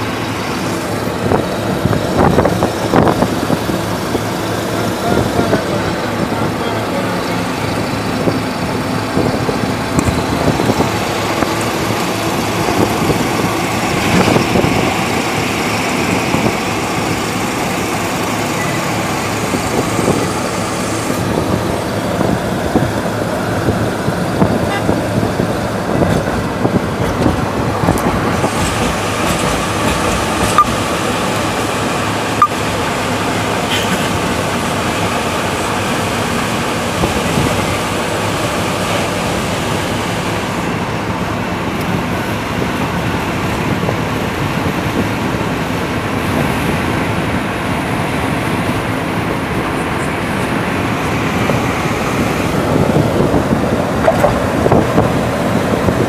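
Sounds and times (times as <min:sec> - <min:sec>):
vehicle road noise from inside: 0:00.0 - 0:56.0.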